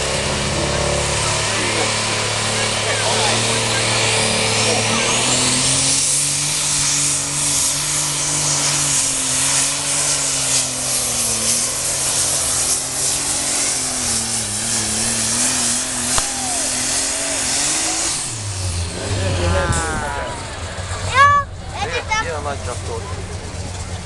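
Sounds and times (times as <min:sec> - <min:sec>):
diesel tractor engine at full power: 0:00.0 - 0:24.0.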